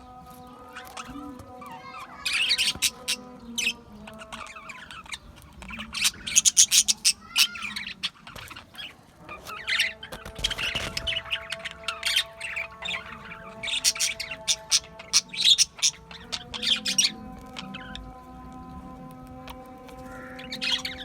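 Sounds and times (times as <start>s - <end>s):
budgerigars chirping and squawking: 0.0s - 21.0s.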